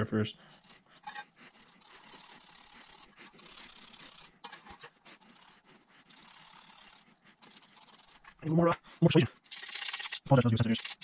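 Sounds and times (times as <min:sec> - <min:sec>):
hand scrubbing rust off metal: 0:00.6 - 0:11.0.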